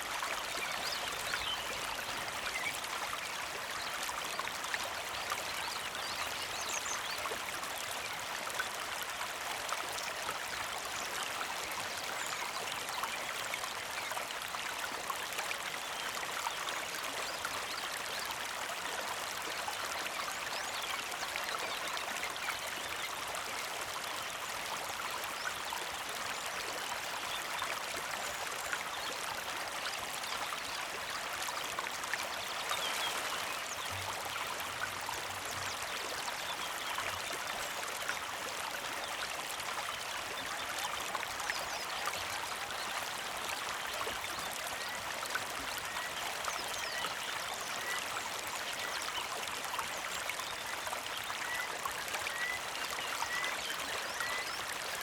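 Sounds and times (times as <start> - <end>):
creek flowing over rocks: 0.0 - 55.0.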